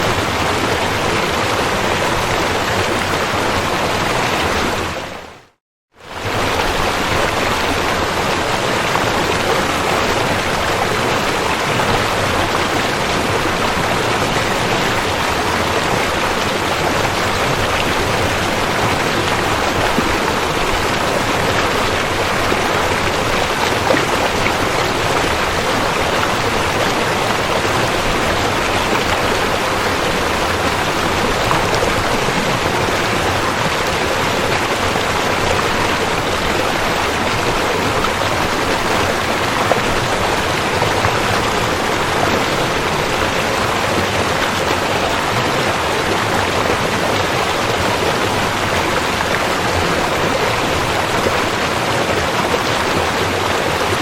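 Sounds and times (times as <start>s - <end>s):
river water rushing over rocks: 0.0s - 5.2s, 6.0s - 54.0s.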